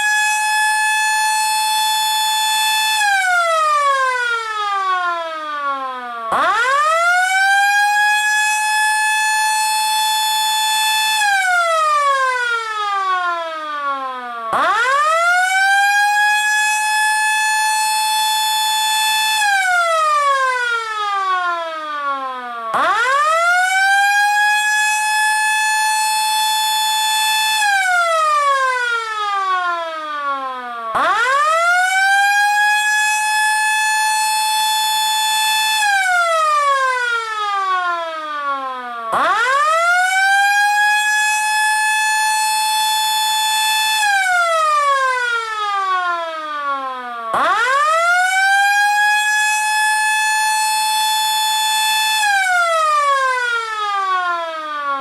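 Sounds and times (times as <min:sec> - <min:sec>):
air raid siren wailing: 0:00.0 - 0:55.0.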